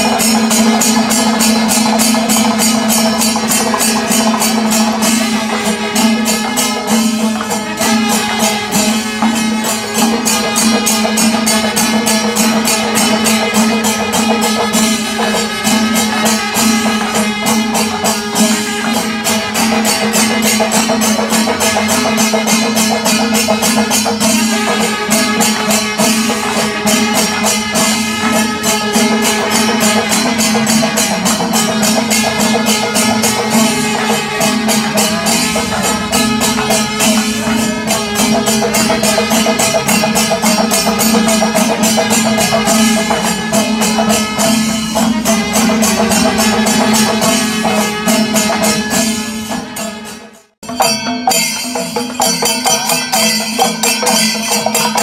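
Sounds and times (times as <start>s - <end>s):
held wind instrument tone: 0.0s - 51.0s
drums: 0.0s - 55.0s
hand cymbals: 0.0s - 55.0s.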